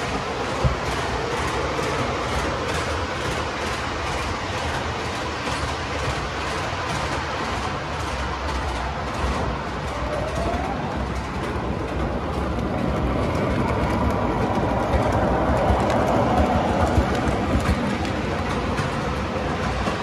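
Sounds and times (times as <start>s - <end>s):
model trains rumbling on track: 0.0s - 20.0s.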